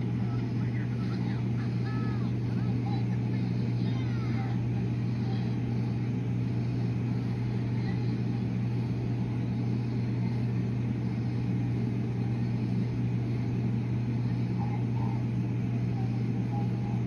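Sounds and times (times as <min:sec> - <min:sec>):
low mechanical hum with rumble: 0:00.0 - 0:17.0.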